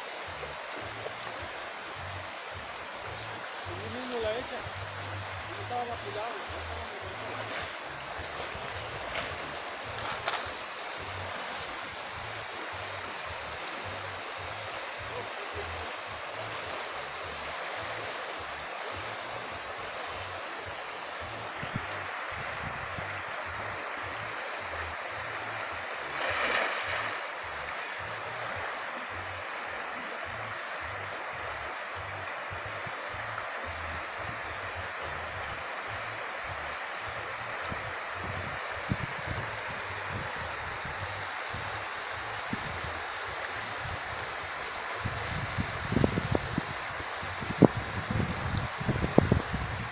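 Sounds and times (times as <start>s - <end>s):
river current rushing: 0.0s - 49.9s.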